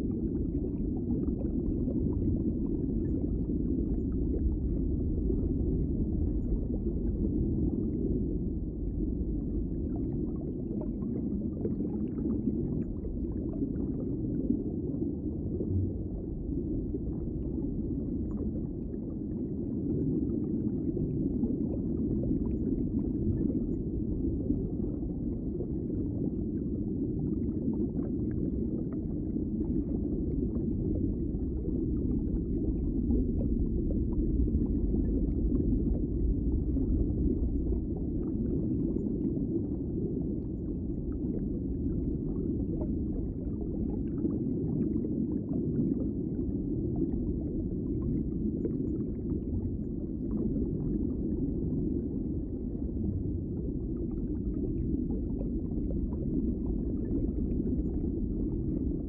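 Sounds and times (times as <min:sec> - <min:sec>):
muffled underwater rumble: 0:00.0 - 0:59.0.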